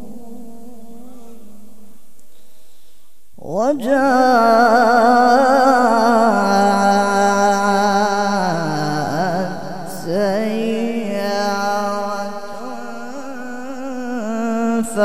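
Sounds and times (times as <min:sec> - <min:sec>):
man chanting melodically: 0:00.0 - 0:02.1, 0:03.4 - 0:15.0.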